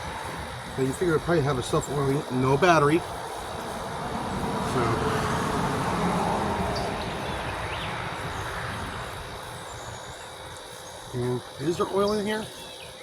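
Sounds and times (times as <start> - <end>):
vehicle passing: 0.0 - 10.5.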